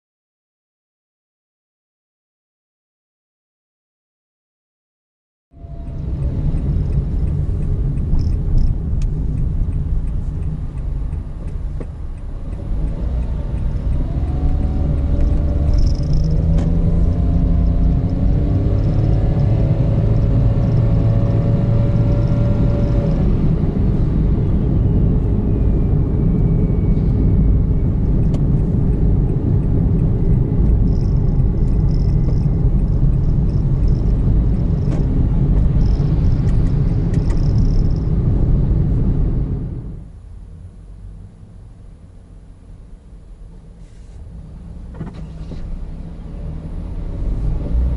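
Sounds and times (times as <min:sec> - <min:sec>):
car engine rumble: 0:05.5 - 0:47.9
road noise inside car: 0:05.5 - 0:47.9.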